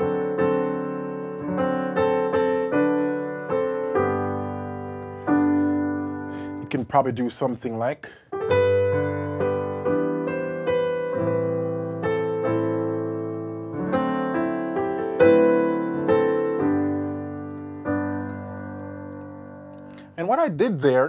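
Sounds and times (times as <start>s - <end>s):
digital piano playing hymn chords: 0.0s - 21.0s.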